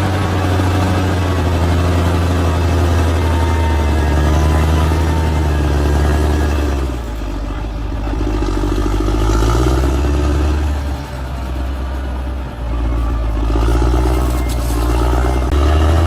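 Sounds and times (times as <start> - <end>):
bulldozer diesel engine under load: 0.0 - 16.0.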